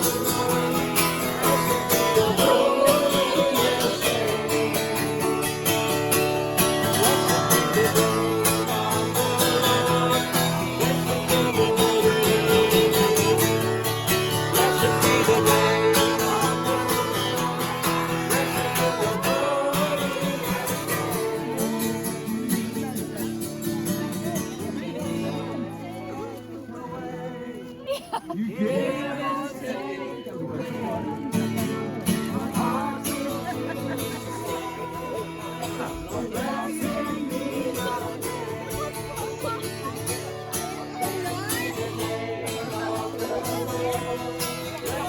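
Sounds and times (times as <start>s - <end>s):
acoustic guitar music: 0.0s - 45.0s.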